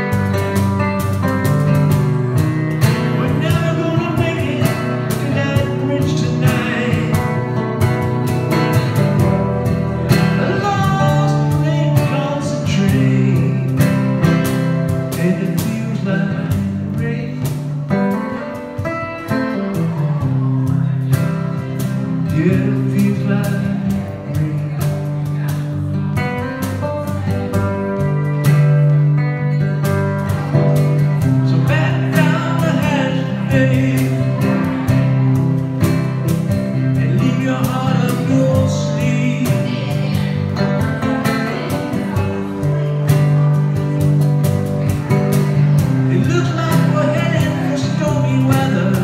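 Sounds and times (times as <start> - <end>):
acoustic guitar strumming: 0.0 - 49.0
man singing: 0.0 - 49.0.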